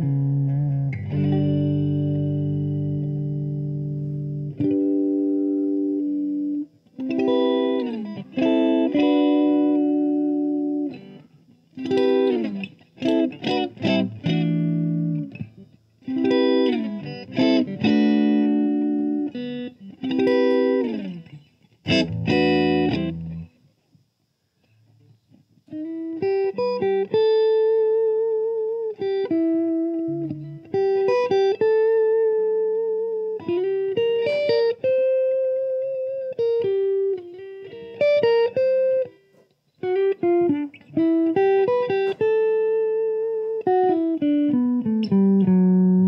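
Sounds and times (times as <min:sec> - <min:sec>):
electric guitar chords: 0:00.0 - 0:23.7, 0:24.6 - 0:46.0.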